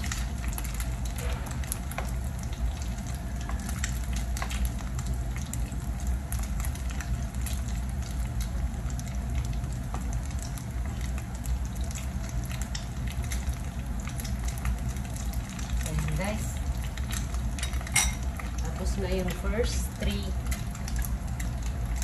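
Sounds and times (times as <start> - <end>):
food sizzling in a pan: 0.0 - 22.0
oil crackling and popping: 0.0 - 22.0.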